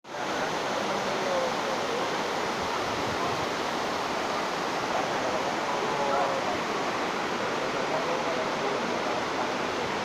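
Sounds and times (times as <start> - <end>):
waterfall rushing: 0.1 - 10.0.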